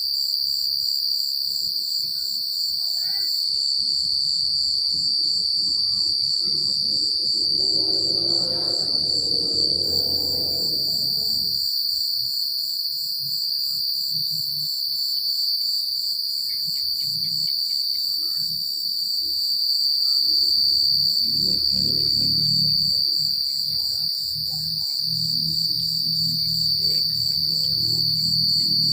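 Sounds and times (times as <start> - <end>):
crickets chirping: 0.0 - 28.9.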